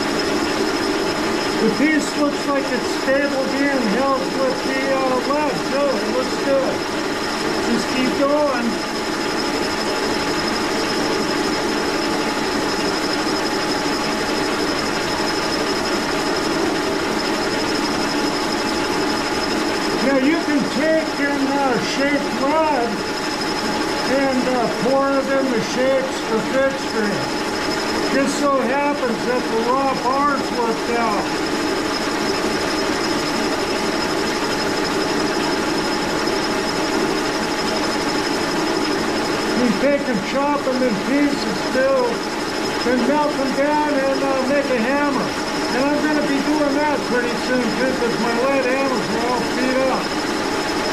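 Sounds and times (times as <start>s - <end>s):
high whine: 0.0s - 50.9s
milling machine drone: 0.0s - 50.9s.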